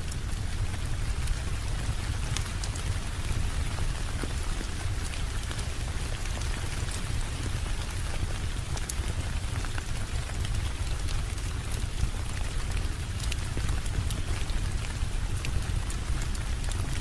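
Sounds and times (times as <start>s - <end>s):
steady rain falling: 0.0s - 17.0s
ticks of raindrops: 0.0s - 17.0s.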